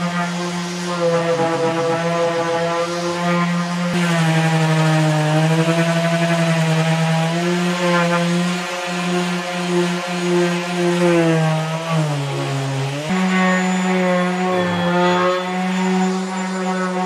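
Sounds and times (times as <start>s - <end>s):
orbital sander on wood: 0.0s - 17.0s.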